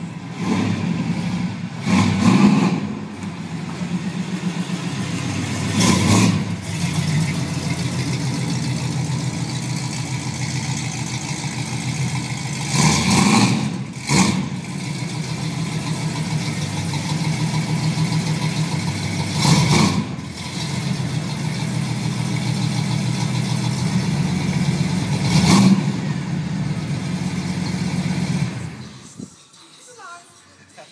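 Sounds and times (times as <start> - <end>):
car engine idling and revving: 0.0 - 29.3.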